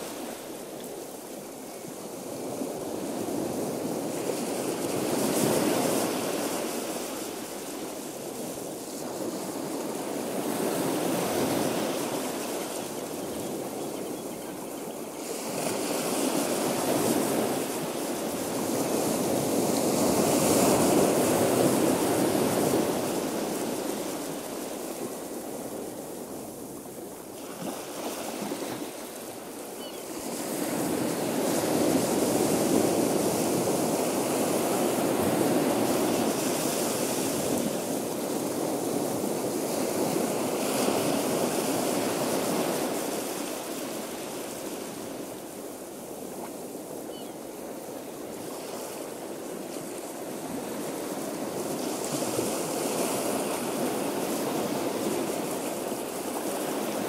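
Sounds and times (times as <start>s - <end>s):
ocean waves breaking: 2.0s - 57.0s.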